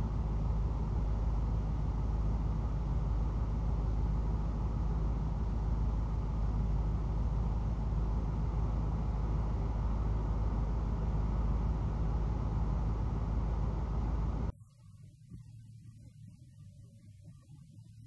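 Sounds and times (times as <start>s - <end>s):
vehicle engine idling: 0.0s - 14.5s.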